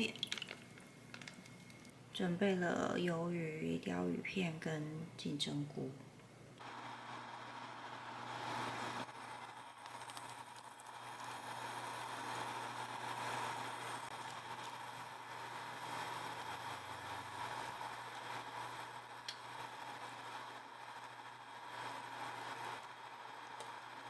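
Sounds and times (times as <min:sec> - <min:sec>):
cooking hiss on stove: 0:00.0 - 0:01.9, 0:06.6 - 0:24.0.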